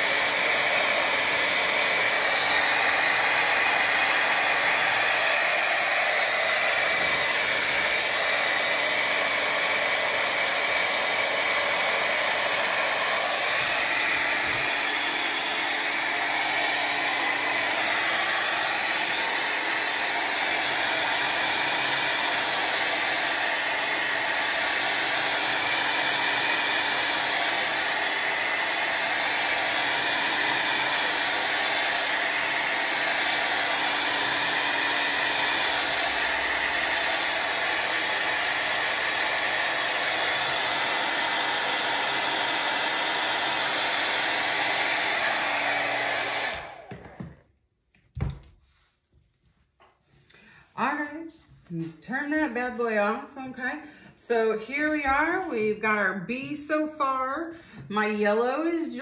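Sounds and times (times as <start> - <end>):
hair dryer running: 0.0 - 47.5, 50.3 - 59.0.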